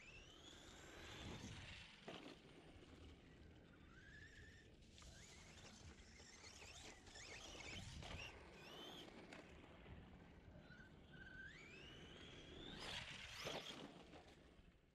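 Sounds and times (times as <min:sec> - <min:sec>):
rc truck electric motor whine: 0:00.0 - 0:14.8.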